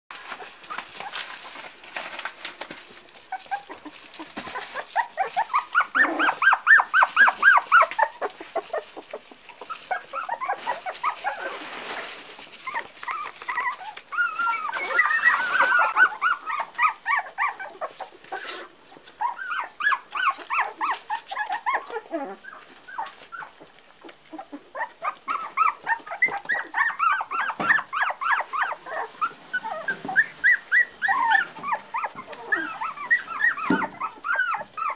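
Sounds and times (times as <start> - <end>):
puppies whimpering and yipping: 0.2 - 1.8, 2.4 - 34.9.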